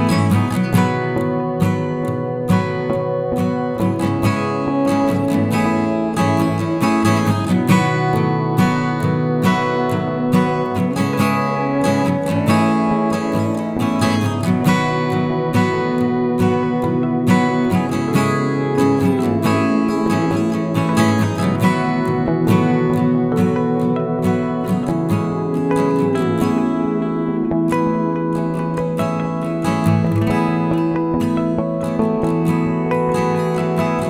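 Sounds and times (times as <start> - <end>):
acoustic guitar strumming and picking: 0.0 - 34.0.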